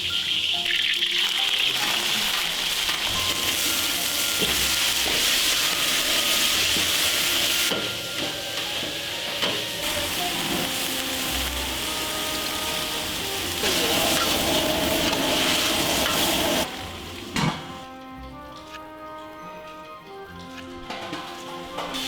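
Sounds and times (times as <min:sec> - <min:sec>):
food sizzling in a pan: 0:00.0 - 0:17.8, 0:21.1 - 0:22.0.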